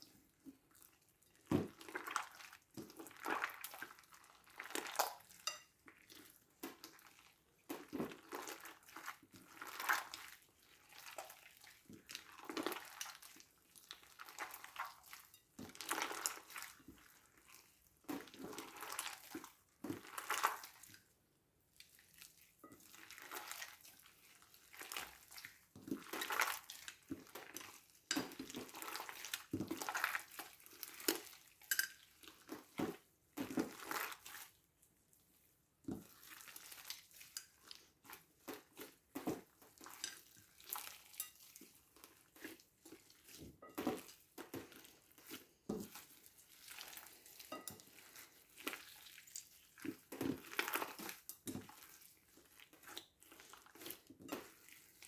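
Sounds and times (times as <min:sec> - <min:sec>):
slime squishing and scraping: 0:00.0 - 0:21.0, 0:21.8 - 0:34.6, 0:35.2 - 0:55.0.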